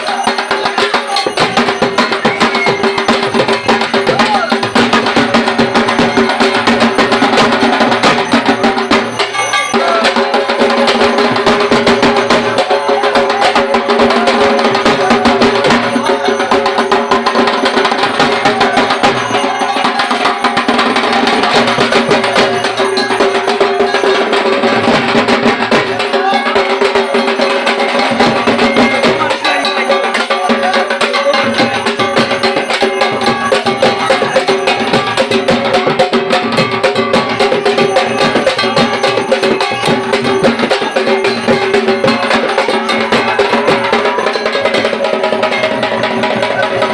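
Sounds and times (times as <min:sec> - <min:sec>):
barrel drum beaten fast: 0:00.0 - 0:46.9.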